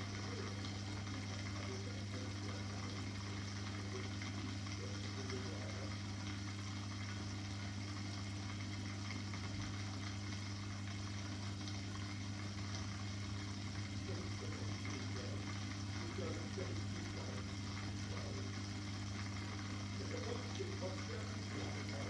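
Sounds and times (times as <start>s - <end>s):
aquarium pump humming: 0.0s - 22.0s
faint moving water: 0.0s - 22.0s.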